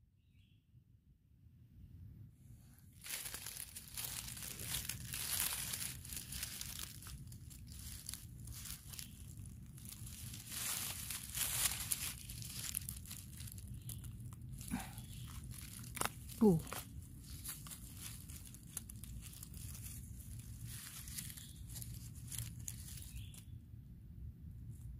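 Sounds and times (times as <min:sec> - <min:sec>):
footsteps on dry leaves and twigs: 0:03.0 - 0:23.4.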